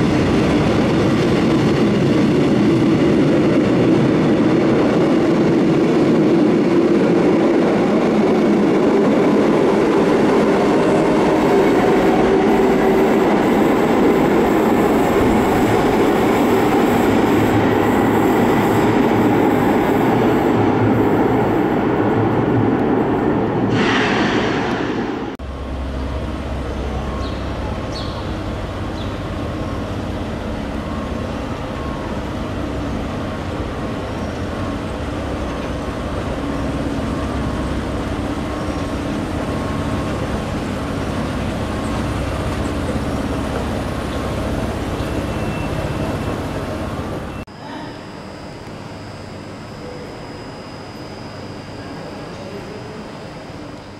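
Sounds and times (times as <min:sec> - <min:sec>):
train wheels and motors rushing: 0:00.0 - 0:48.8
low train rumble and hum: 0:00.0 - 0:53.9.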